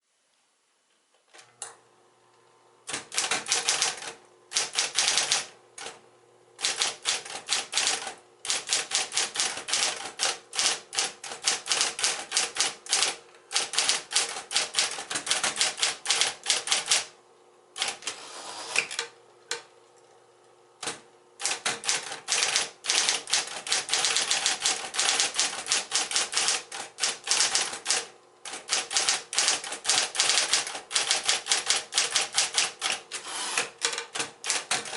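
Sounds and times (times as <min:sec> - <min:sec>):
electric typewriter motor humming: 0:02.8 - 0:06.0, 0:06.6 - 0:17.1, 0:17.8 - 0:19.6, 0:20.8 - 0:34.9
typewriter keys clicking: 0:02.9 - 0:06.0, 0:06.6 - 0:17.1, 0:17.8 - 0:18.2, 0:20.8 - 0:34.9.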